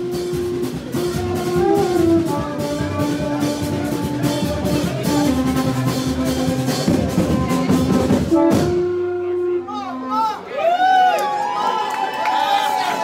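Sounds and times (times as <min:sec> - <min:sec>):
band music with drum kit: 0:00.0 - 0:10.5.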